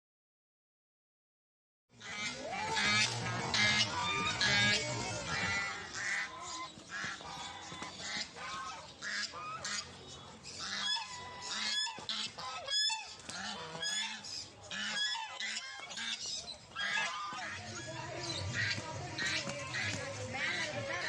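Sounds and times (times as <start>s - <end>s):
ducks quacking and honking: 2.0s - 21.0s.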